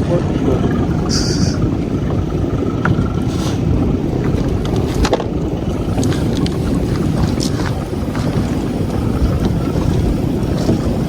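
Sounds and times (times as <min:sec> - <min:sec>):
boat low rumble: 0:00.0 - 0:11.0
wind buffeting microphone: 0:00.0 - 0:11.0.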